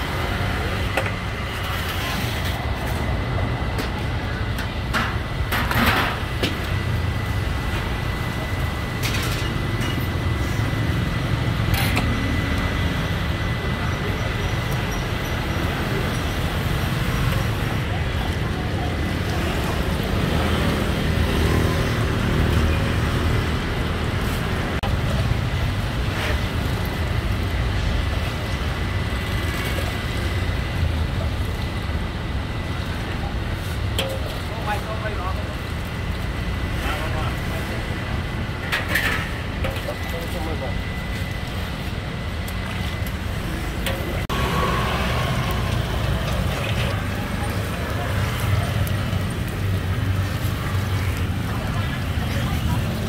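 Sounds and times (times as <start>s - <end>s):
low rumble of traffic: 0.0s - 53.0s.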